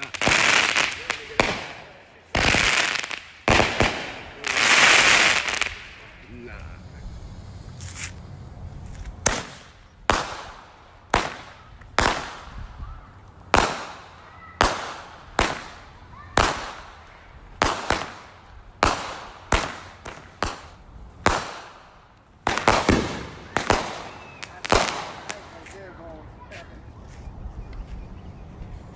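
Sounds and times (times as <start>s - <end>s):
fireworks bangs echoing: 0.0s - 6.8s, 9.0s - 26.1s.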